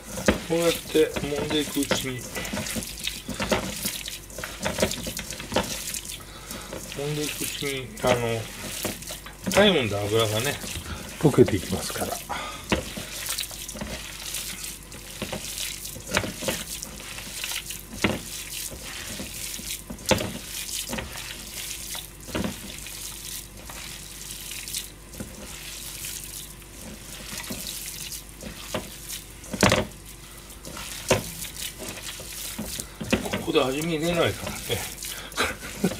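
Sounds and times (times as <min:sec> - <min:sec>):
hands squishing wet meat mixture: 0:00.0 - 0:35.9.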